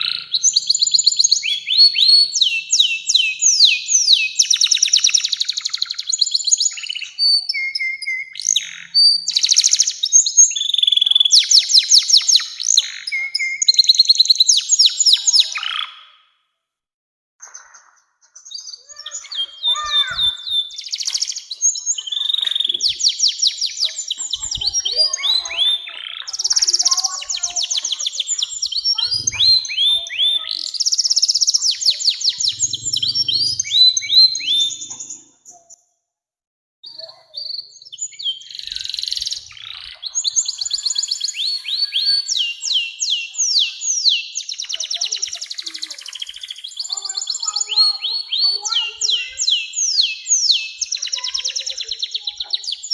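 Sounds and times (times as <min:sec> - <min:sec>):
canary singing: 0:00.0 - 0:16.2, 0:17.6 - 0:35.8, 0:36.8 - 0:52.9.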